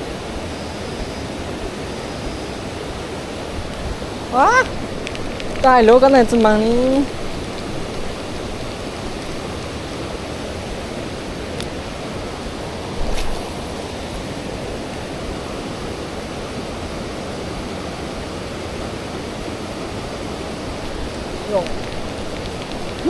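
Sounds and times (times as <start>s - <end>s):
rushing water hiss: 0.0s - 23.0s.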